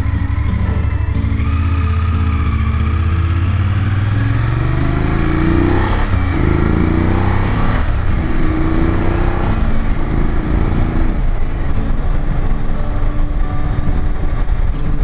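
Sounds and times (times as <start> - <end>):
motorcycle engine accelerating: 0.0 - 15.0
wind noise on microphone: 0.0 - 15.0.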